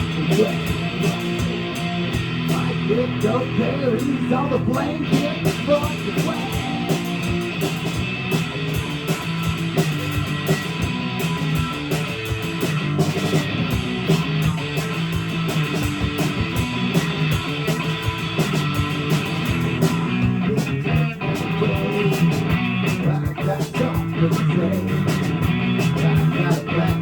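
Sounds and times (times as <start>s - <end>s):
guitar: 0.0s - 27.0s
steady drum beat: 0.0s - 27.0s.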